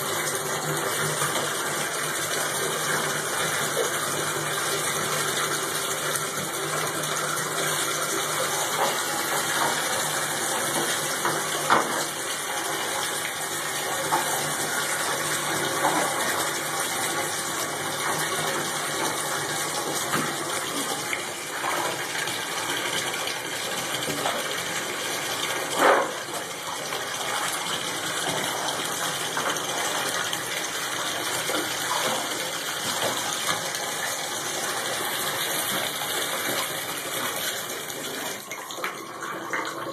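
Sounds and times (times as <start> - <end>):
water running into bathtub: 0.0 - 39.9.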